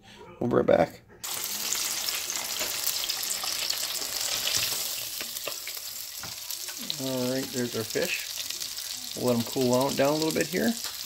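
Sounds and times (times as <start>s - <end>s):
fish sizzling in hot oil: 1.2s - 11.0s.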